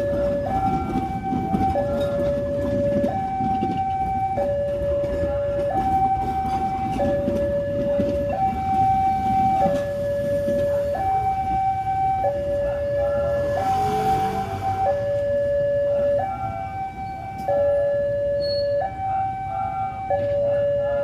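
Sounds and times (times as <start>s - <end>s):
two-tone warning siren: 0.0s - 21.0s.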